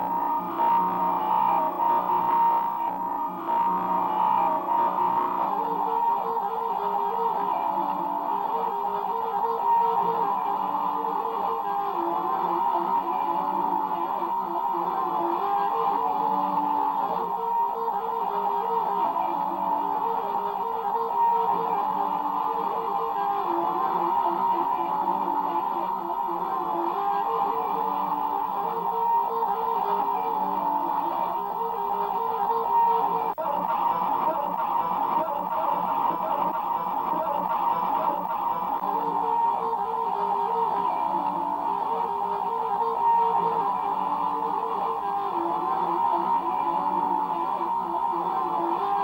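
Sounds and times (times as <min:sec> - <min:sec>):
electric guitar riff: 0:00.0 - 0:49.0.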